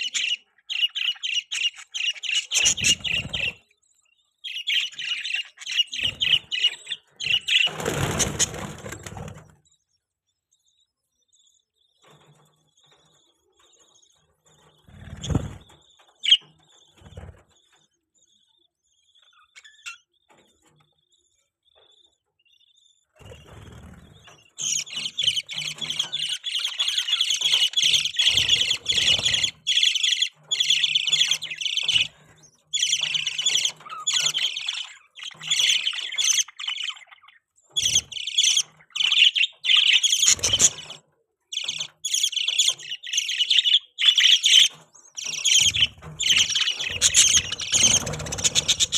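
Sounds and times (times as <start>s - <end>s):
budgerigars chirping and chattering: 0.0s - 48.9s.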